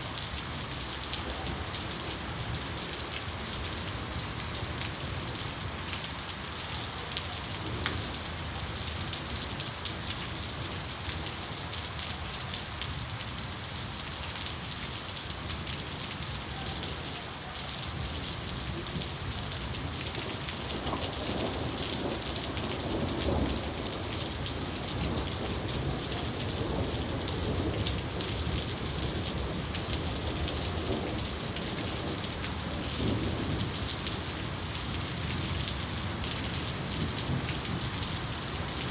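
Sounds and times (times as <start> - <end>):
rain drops pattering: 0.0 - 38.9.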